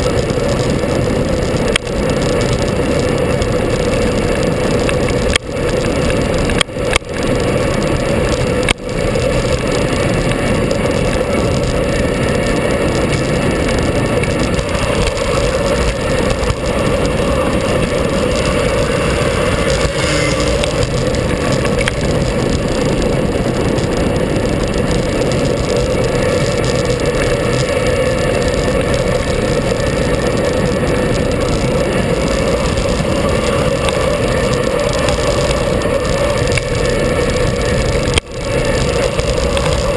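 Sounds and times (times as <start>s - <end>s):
engine drone: 0.0s - 39.9s
wind and road noise: 0.0s - 39.9s
motorcycle passing: 7.2s - 39.9s.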